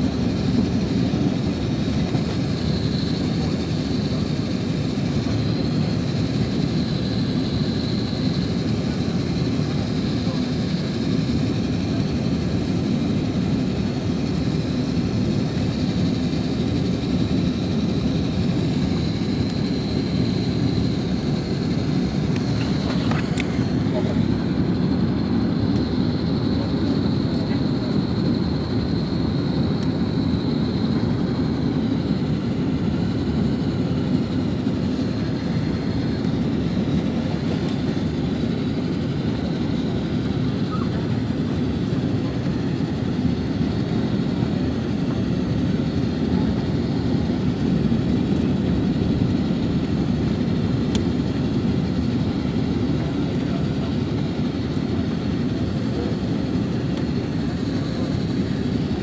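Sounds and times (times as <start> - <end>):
airflow and engine rumble: 0.0 - 59.0.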